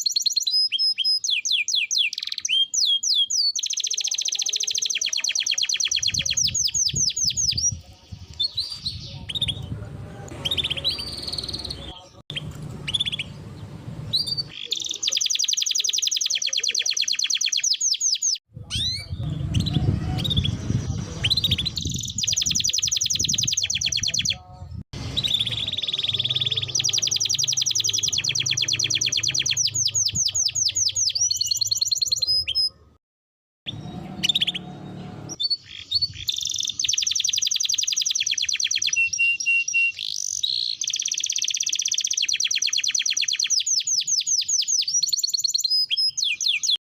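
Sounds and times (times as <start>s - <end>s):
canary singing trills: 0.0s - 33.0s, 33.7s - 46.8s.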